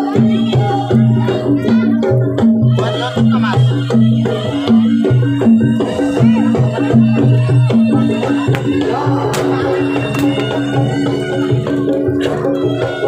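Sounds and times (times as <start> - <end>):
drums and struck percussion music: 0.0 - 13.0.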